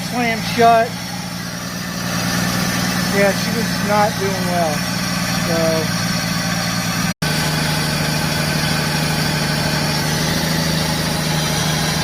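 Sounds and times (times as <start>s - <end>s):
engine idling rough: 0.0s - 12.0s.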